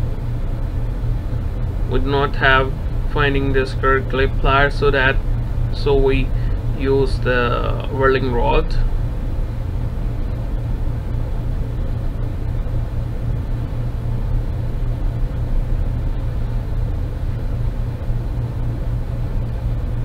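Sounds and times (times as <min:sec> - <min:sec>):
machinery rumbling: 0:00.0 - 0:20.0.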